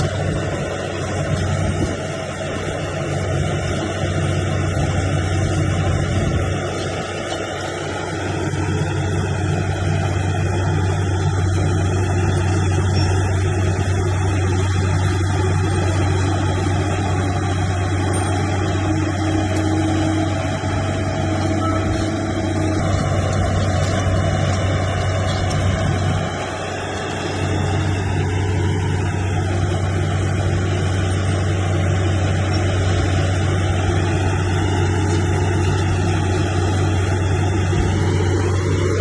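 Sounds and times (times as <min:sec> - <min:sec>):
heavy machine engine droning: 0:00.0 - 0:39.0.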